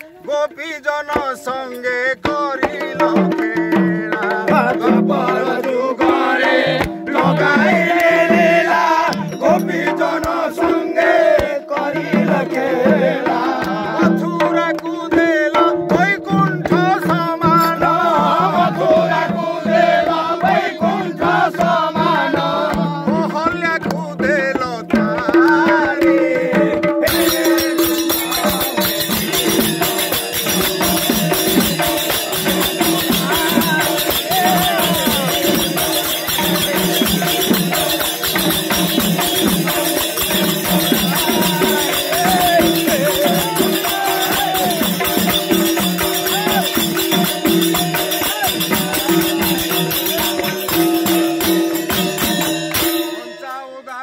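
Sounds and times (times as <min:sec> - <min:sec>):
people clapping along: 0:00.0 - 0:15.7, 0:16.3 - 0:52.9
man singing: 0:00.0 - 0:50.8, 0:52.7 - 0:54.0
barrel drum: 0:00.0 - 0:53.3
jingling percussion: 0:00.0 - 0:54.0.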